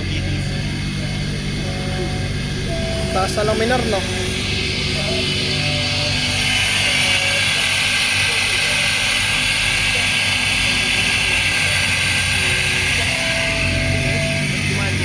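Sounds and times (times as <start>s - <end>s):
car engine at high idle: 0.0s - 15.0s.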